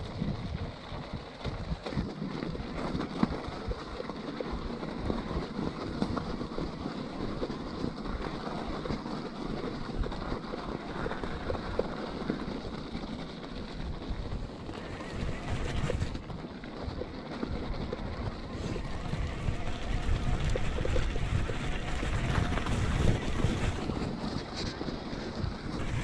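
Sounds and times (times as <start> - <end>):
bike knocking and rattling: 0.0 - 26.0
bike tyres rolling on snow: 0.0 - 26.0.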